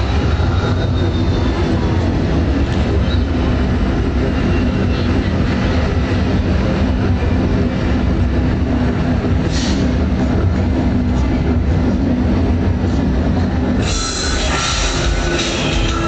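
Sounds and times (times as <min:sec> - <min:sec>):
loud low rumbling: 0:00.0 - 0:16.0.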